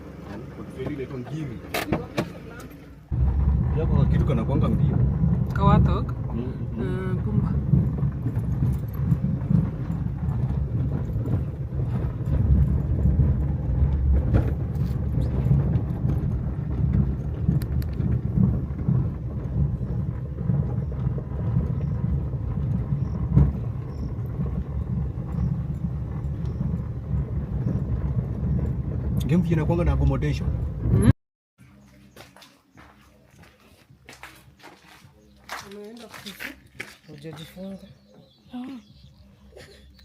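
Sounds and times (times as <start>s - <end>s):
low road rumble in car: 0.0s - 40.0s.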